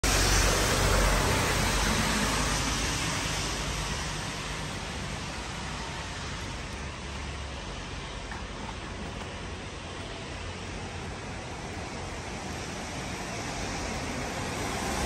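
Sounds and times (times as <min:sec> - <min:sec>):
rushing street noise: 0:00.0 - 0:15.0.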